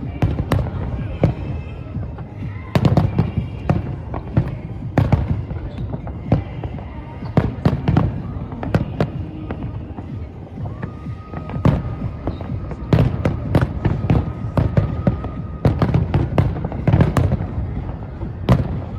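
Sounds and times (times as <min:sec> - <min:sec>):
low rumble of echoing reports: 0:00.0 - 0:18.9.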